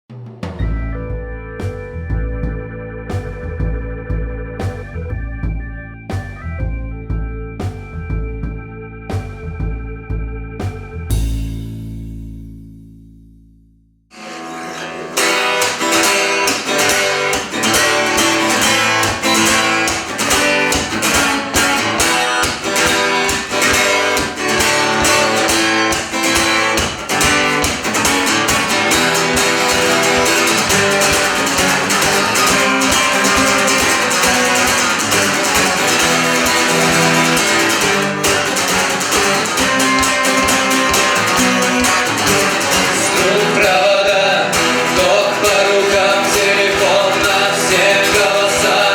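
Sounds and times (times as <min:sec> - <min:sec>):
bass guitar: 0:00.4 - 0:48.9
strummed and plucked guitars: 0:00.5 - 0:48.9.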